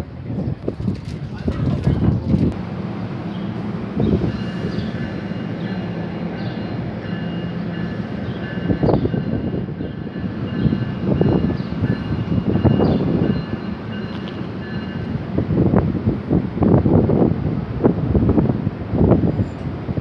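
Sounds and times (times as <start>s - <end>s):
train rail rumble: 0.0s - 20.0s.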